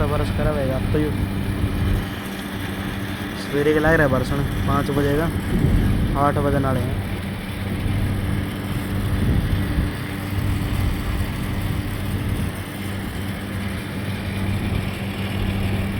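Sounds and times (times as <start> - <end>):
steady rain hiss: 0.0 - 15.9
vehicle engine running: 0.0 - 15.9.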